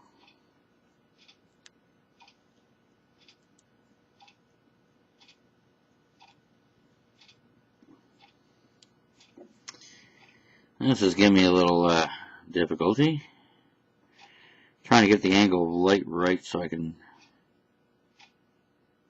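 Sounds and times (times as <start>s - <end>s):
faint regular ticking: 0.0s - 12.1s, 14.0s - 18.8s.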